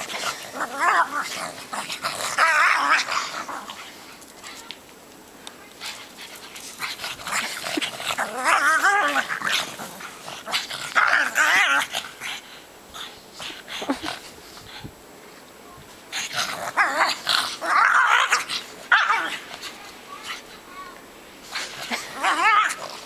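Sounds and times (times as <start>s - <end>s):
dogs growling while play-fighting: 0.0s - 4.2s, 5.8s - 14.9s, 16.1s - 20.6s, 21.4s - 23.0s.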